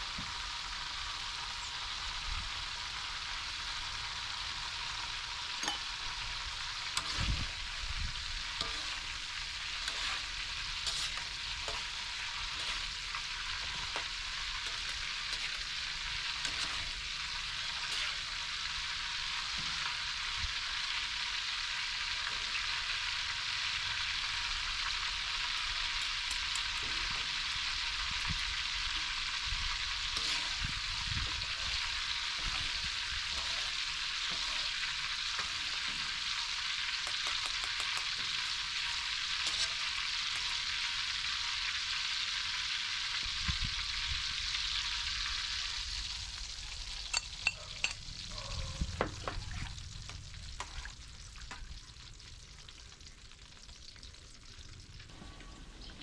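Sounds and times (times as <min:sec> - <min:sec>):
food sizzling in hot oil: 0:00.0 - 0:55.1.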